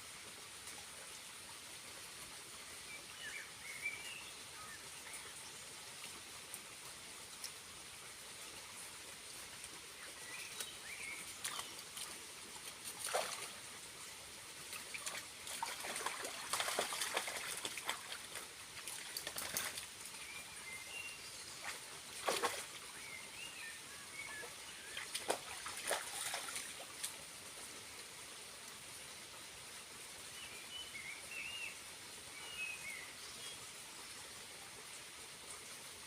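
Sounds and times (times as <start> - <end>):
waterfall trickling and splashing: 0.0 - 36.0.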